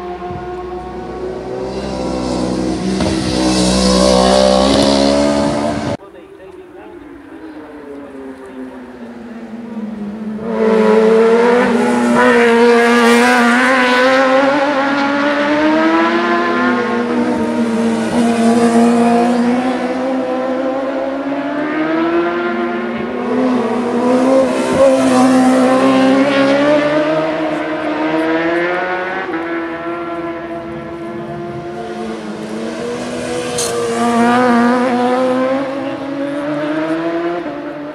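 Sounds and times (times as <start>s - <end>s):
racing motorcycle engines revving: 0.0s - 37.9s.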